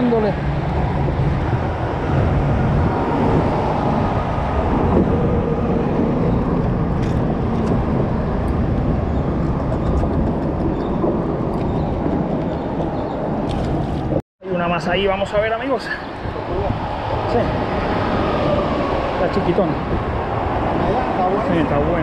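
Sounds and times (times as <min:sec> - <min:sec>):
wind and choppy water rumbling: 0:00.0 - 0:14.2, 0:15.1 - 0:22.0.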